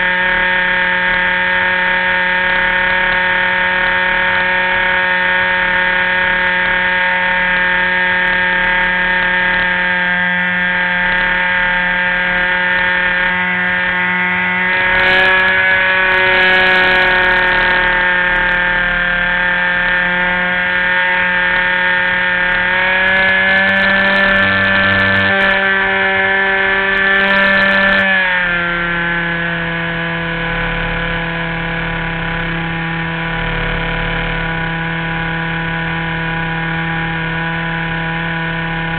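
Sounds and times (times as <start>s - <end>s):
model airplane motor running: 0.0s - 38.9s.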